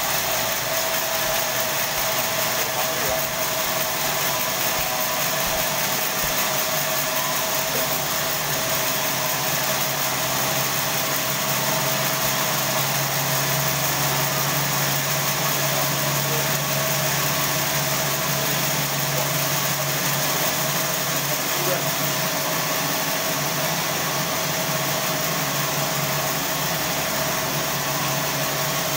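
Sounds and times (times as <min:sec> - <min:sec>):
band saw running: 0:00.0 - 0:28.9.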